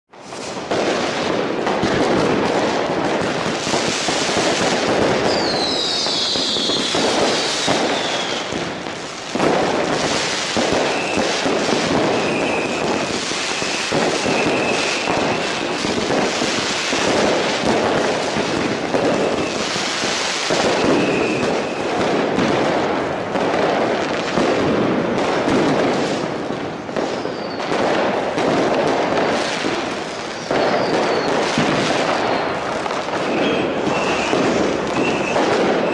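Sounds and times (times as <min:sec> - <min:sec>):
fireworks bangs and crackling: 0:00.1 - 0:35.9
whistling fireworks: 0:00.1 - 0:35.9.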